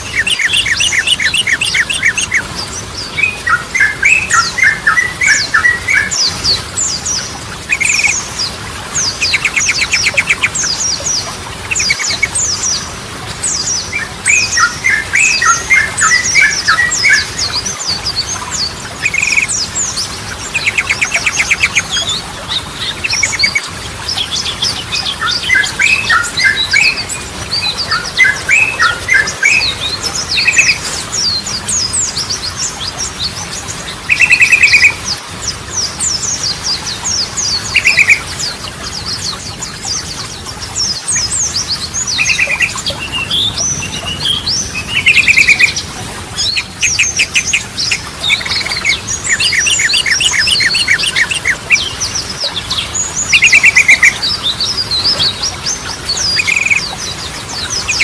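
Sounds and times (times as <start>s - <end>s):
bulbul chattering song: 0.0s - 58.0s.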